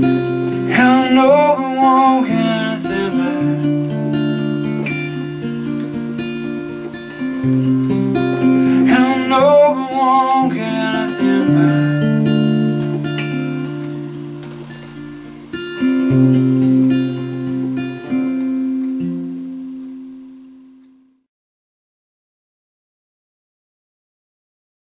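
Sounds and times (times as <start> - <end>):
acoustic guitar picked chords: 0.0 - 21.3.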